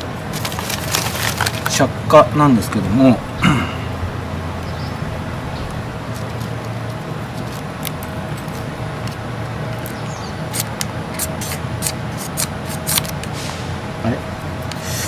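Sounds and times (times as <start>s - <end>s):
fire crackling: 0.0s - 15.0s
steady low rumble: 0.2s - 14.8s.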